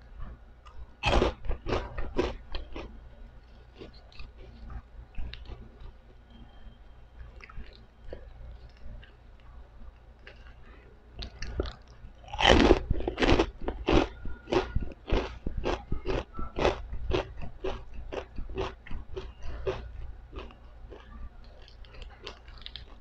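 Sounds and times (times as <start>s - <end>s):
crunchy chewing: 0.2s - 6.4s, 7.2s - 23.0s.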